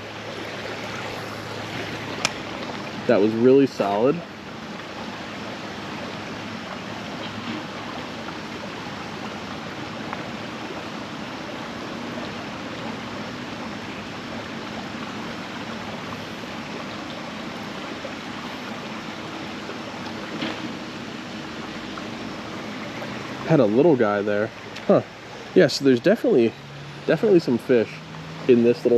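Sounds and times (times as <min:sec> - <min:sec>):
creek water babbling: 0:00.0 - 0:28.9.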